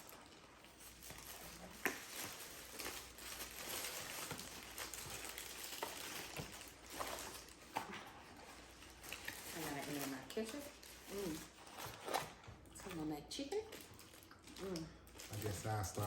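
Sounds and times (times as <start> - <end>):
paper wrappers crinkling: 0.0 - 16.0.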